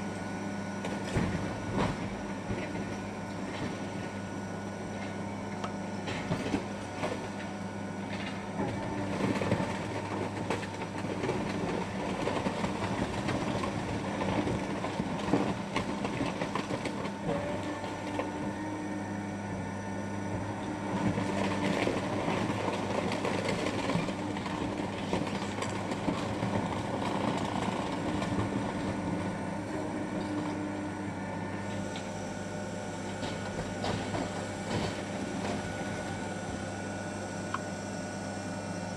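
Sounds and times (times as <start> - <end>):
crushing machine hum: 0.0 - 38.9.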